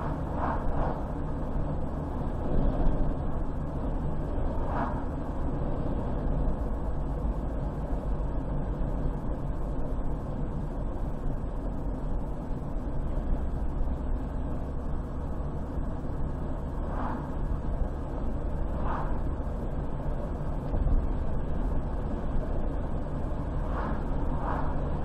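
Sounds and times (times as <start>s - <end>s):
car driving on highway: 0.0s - 25.0s.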